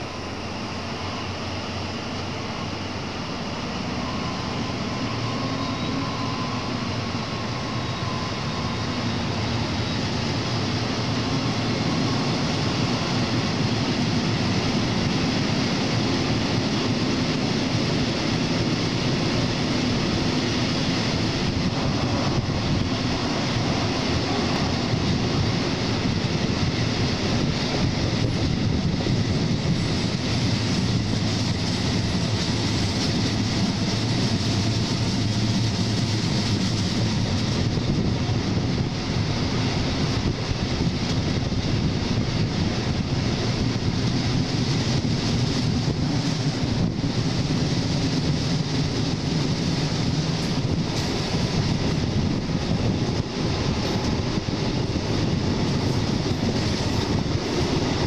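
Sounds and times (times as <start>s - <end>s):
diesel locomotive engine: 0.0s - 58.0s
train wheels on rails: 0.0s - 58.0s
wind: 0.0s - 58.0s.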